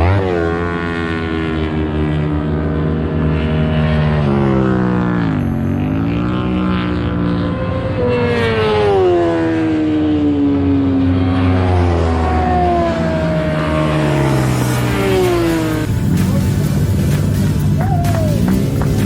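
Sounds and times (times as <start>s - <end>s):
sportbike engines passing: 0.0s - 19.0s.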